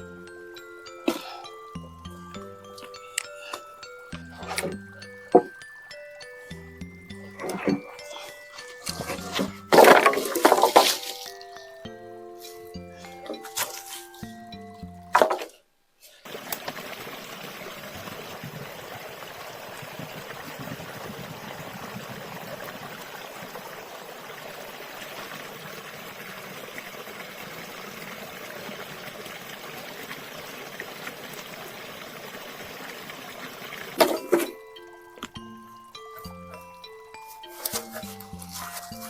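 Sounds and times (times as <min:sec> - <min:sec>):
running water: 0:00.0 - 0:15.5, 0:16.2 - 0:39.0.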